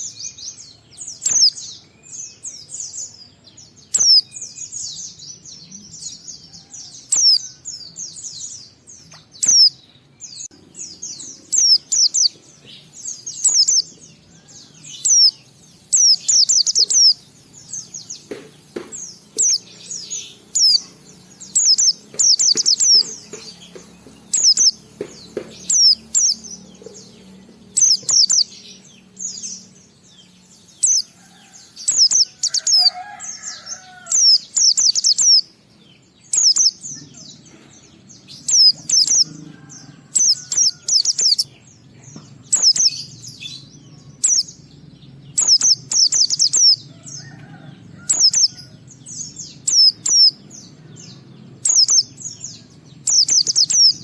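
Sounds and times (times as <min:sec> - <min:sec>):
bird singing high sweeping chirps: 0:00.0 - 0:54.0.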